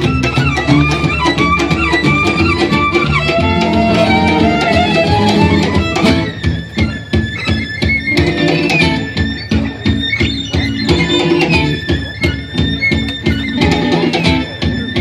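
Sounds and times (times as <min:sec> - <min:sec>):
guitar and percussion: 0:00.0 - 0:15.0
violin melody: 0:00.0 - 0:15.0.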